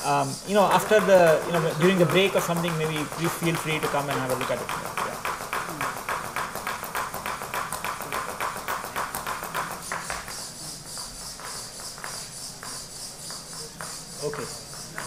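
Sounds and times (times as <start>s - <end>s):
robot feet tapping on floor: 0.4s - 15.0s.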